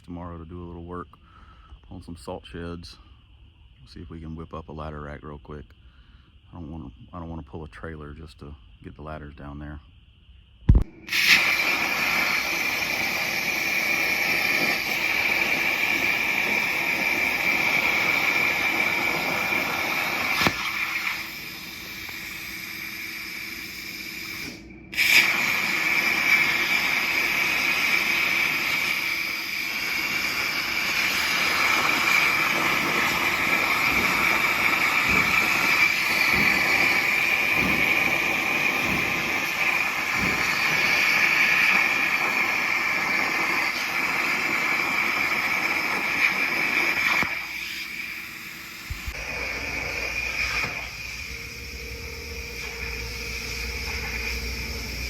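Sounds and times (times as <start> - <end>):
tool hiss with high whine: 0.0 - 55.0.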